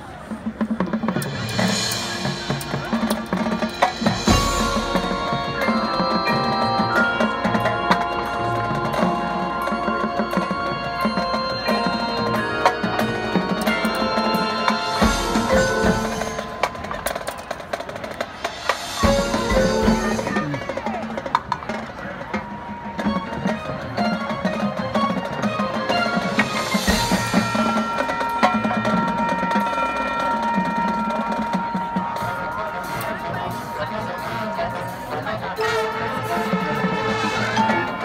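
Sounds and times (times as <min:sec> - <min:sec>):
marching drumline: 0:00.0 - 0:38.0
mallet keyboards playing melody: 0:01.1 - 0:21.3, 0:22.8 - 0:38.0.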